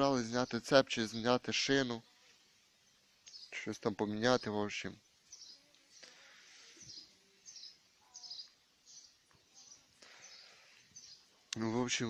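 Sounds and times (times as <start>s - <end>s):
small bird chirping faintly: 0.0s - 12.0s.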